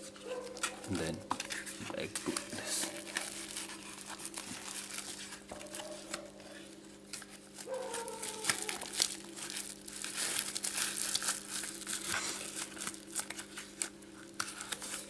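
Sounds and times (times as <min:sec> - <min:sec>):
packaging crinkling: 0:00.2 - 0:15.0.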